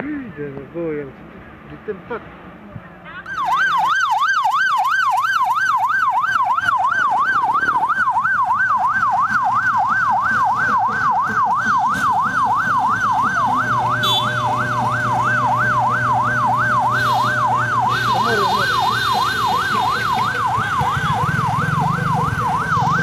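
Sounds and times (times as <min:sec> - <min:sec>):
siren yelping: 0:03.2 - 0:23.0.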